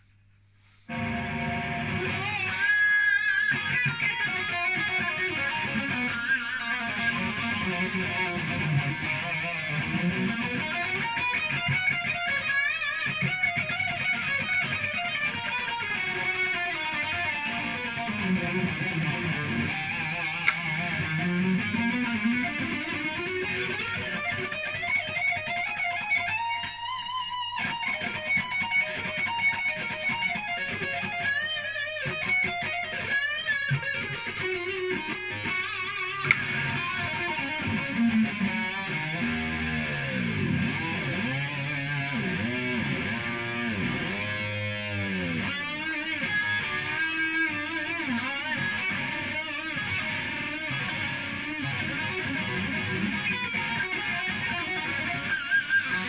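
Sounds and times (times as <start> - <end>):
overdriven electric guitar lead: 0.9 - 56.0.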